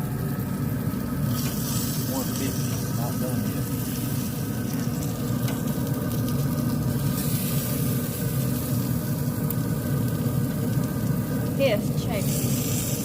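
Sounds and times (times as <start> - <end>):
chicken wings sizzling on grill: 0.0 - 13.0.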